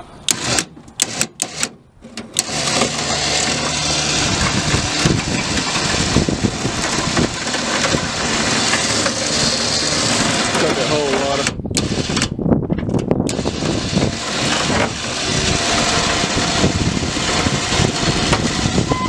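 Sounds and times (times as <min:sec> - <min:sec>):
engine running: 0:00.0 - 0:12.3, 0:13.3 - 0:19.0.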